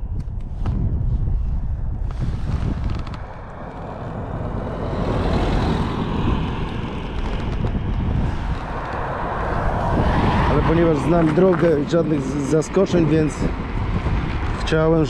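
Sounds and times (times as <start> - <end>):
road noise: 0.0 - 15.0
wind rush: 0.0 - 15.0.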